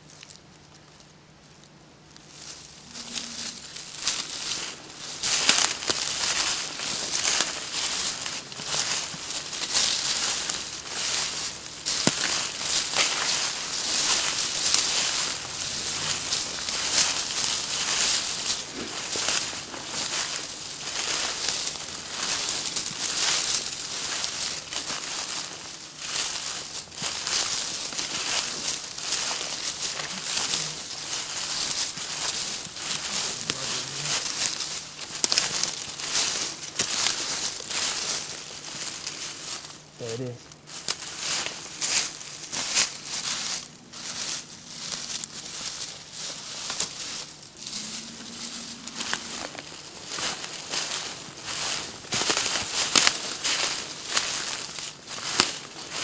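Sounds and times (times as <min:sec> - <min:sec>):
footsteps crunching dry leaves: 0:00.0 - 0:56.0.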